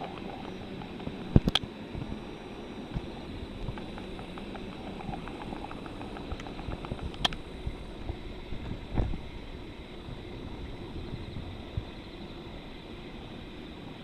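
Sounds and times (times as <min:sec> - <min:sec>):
campfire crackling: 0:00.0 - 0:11.6.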